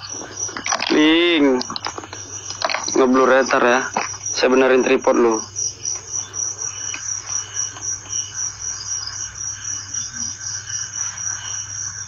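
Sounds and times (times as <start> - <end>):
crickets chirping: 0.0 - 12.0
steady low hum: 0.0 - 12.0.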